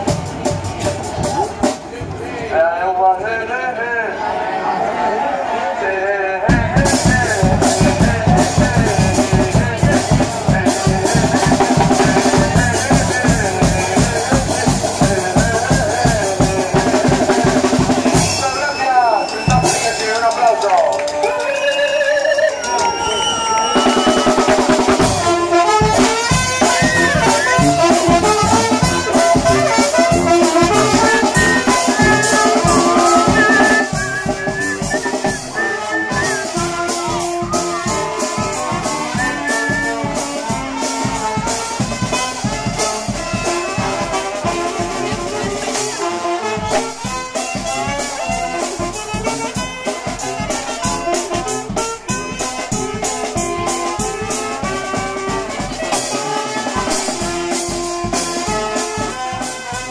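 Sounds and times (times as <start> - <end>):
steady drum beat: 0.0 - 2.2, 6.5 - 21.3, 23.8 - 59.9
trumpets and saxophone: 6.4 - 59.9.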